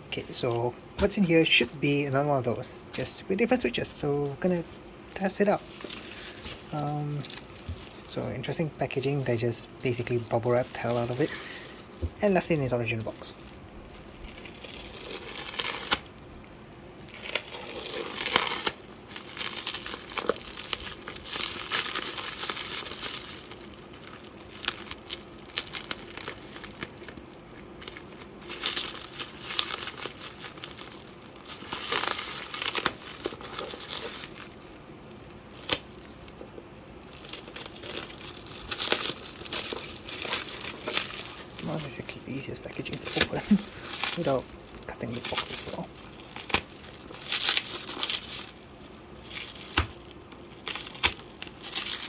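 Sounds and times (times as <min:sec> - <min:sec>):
bubble wrap crinkling and tearing: 0:00.1 - 0:52.0.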